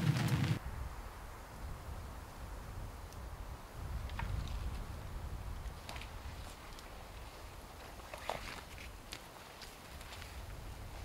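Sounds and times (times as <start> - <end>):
faint low wind rumble: 0.0 - 11.0.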